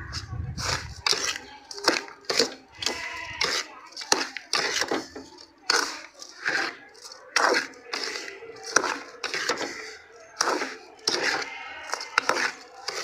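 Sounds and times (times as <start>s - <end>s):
spoon scraping and stirring in pan: 0.0s - 13.0s.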